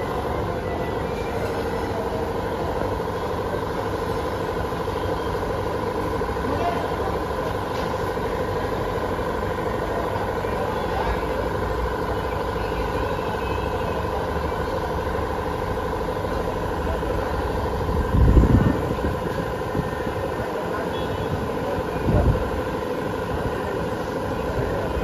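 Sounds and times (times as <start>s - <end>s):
electric train hum with whine: 0.0s - 25.0s.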